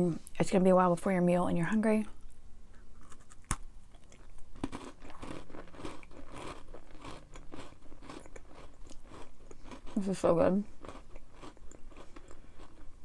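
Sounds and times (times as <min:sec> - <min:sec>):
person chewing crunchy food: 0:02.2 - 0:13.0.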